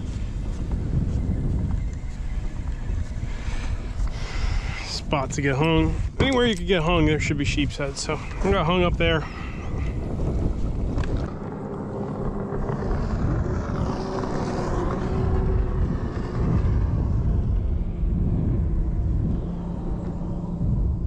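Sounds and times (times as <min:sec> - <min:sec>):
motorboat engine droning: 0:00.0 - 0:21.0
wind rumbling on microphone: 0:00.0 - 0:21.0.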